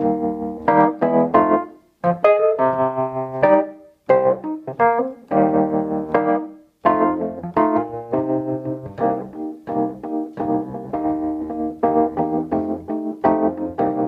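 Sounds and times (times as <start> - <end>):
electric piano chords: 0.0 - 14.0.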